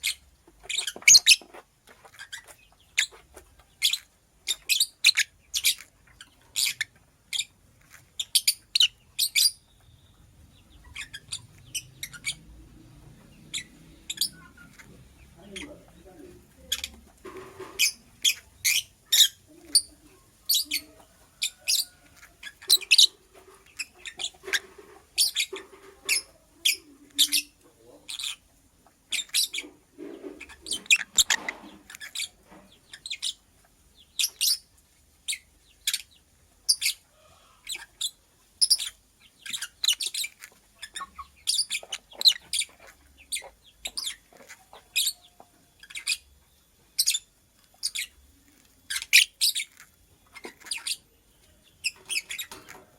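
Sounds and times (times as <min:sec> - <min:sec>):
lovebird chirping: 0:00.0 - 0:52.9.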